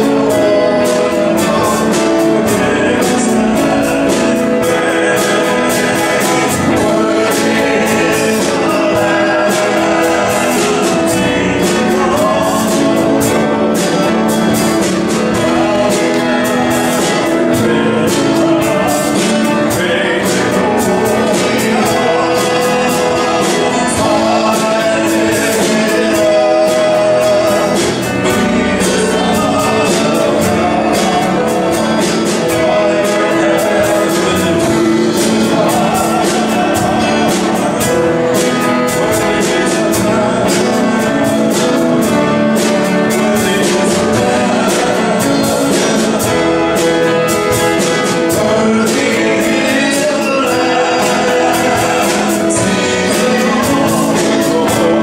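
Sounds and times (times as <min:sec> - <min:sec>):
drum kit: 0:00.0 - 0:55.0
grand piano: 0:00.0 - 0:55.0
guitar: 0:00.0 - 0:55.0
people singing: 0:00.0 - 0:55.0.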